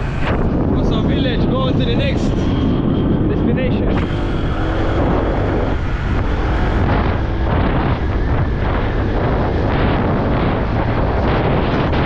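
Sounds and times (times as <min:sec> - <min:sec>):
motorbike engine rumble: 0:00.0 - 0:12.0
wind buffeting microphone: 0:00.0 - 0:12.0.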